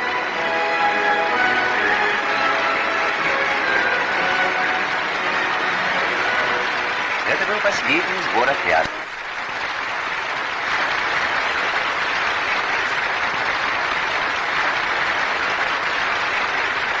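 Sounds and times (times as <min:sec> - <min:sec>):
children applauding: 0:00.0 - 0:17.0.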